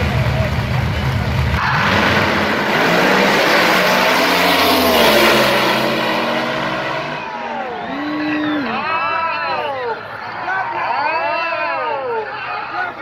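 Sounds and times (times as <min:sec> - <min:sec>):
drag racing cars at full throttle: 0:00.0 - 0:10.6.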